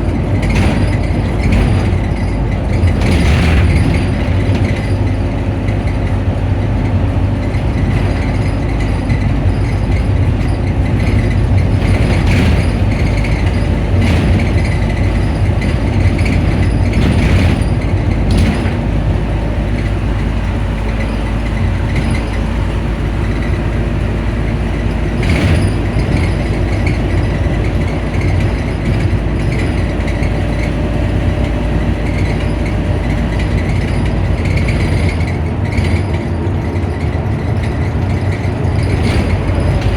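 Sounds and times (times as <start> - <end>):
bus engine idling: 0.0 - 39.9
engine cooling fan: 0.0 - 39.9.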